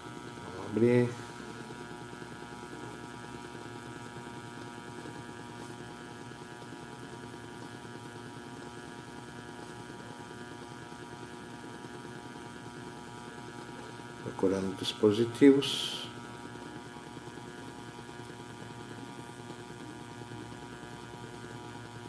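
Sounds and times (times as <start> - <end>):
amplifier electrical hum and hiss: 0.0 - 22.0.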